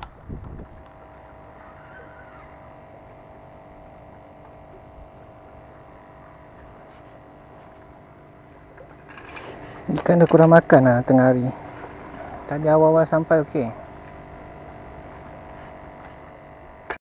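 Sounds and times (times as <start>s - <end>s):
hum of held tones: 0.0s - 17.0s.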